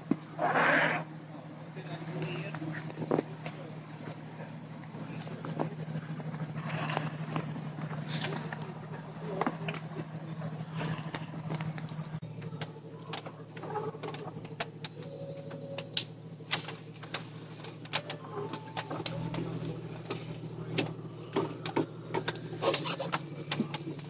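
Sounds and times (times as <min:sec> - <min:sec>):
vehicle engine running at low revs: 0:00.0 - 0:24.0.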